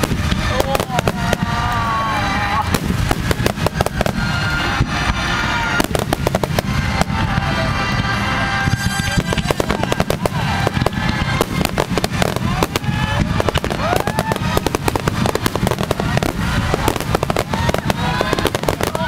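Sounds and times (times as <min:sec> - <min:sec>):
deep continuous booming: 0:00.0 - 0:19.0
sharp bangs and crackles: 0:00.0 - 0:19.0.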